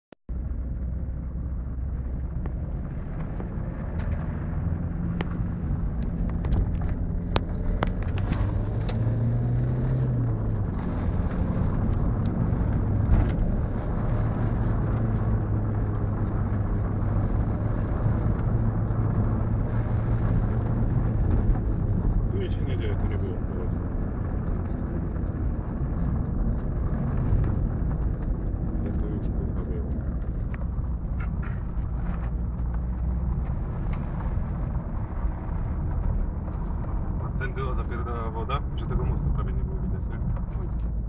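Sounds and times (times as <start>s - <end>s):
car engine running: 0.3s - 41.0s
road noise inside car: 0.3s - 41.0s.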